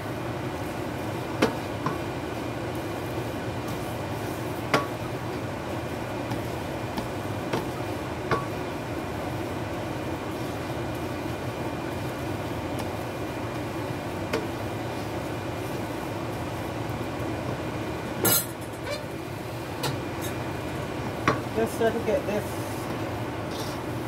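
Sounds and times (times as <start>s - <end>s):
exhaust fan humming: 0.0s - 24.0s.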